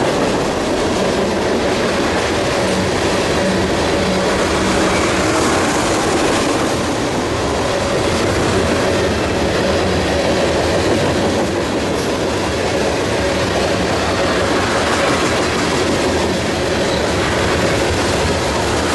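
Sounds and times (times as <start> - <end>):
freight train rolling past: 0.0 - 18.9
steel wheels clattering on rails: 0.0 - 18.9.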